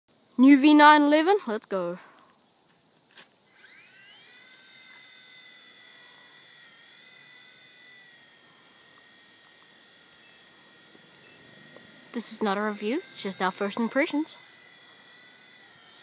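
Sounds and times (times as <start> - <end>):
high insect buzz: 0.1 - 16.0
toy helicopter motor whine: 0.1 - 16.0.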